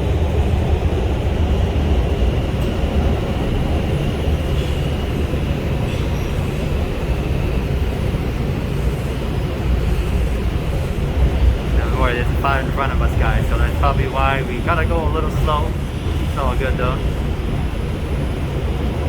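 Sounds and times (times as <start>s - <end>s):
rumble of wheels on rail: 0.0s - 19.0s.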